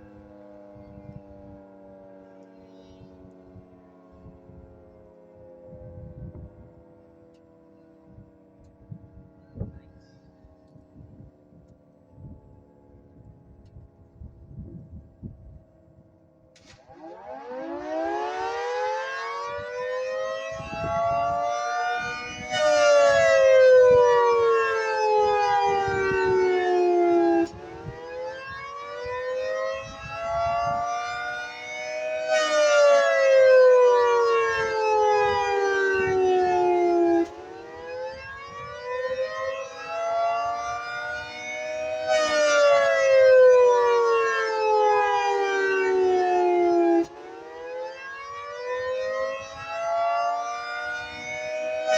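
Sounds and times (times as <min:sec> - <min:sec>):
warning siren wailing: 0:00.0 - 0:51.9.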